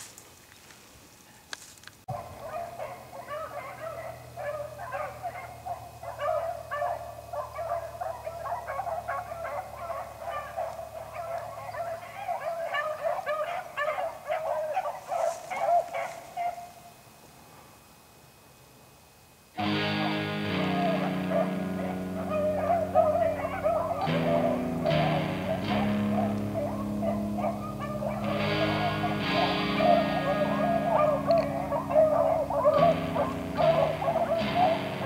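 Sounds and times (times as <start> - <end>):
pack of dogs baying: 2.1 - 16.9, 19.6 - 35.0.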